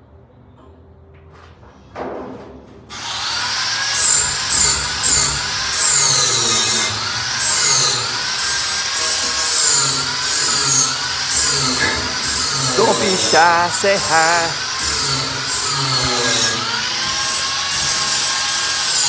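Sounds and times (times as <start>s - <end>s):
power tool motor whine: 2.9s - 19.0s.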